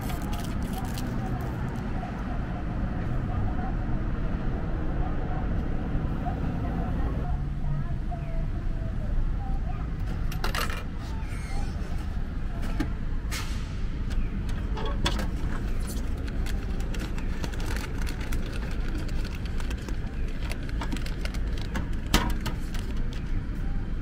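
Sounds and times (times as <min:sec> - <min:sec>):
low rumble of street traffic: 0:00.0 - 0:24.0.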